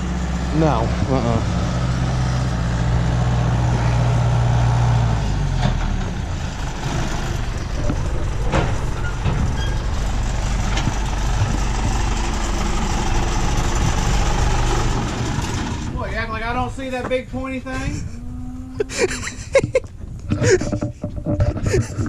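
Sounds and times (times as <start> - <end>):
combine harvester engine: 0.0 - 19.2
continuous rumble and rattle: 0.0 - 22.0.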